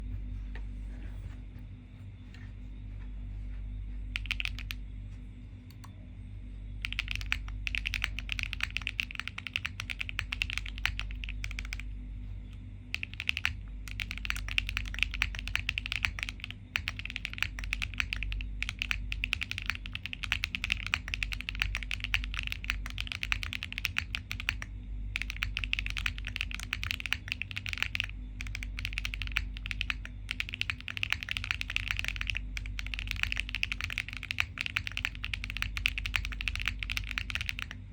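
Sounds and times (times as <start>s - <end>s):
low steady hum: 0.0s - 37.9s
mechanical keyboard keystroke clacks: 4.2s - 4.8s, 6.8s - 11.8s, 12.9s - 37.8s.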